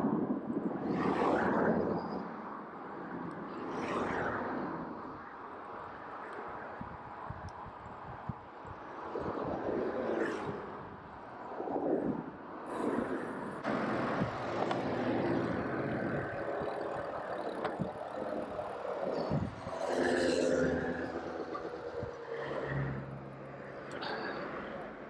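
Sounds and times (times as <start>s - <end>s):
wind rushing over microphone: 0.0s - 25.0s
cars passing: 0.8s - 25.0s.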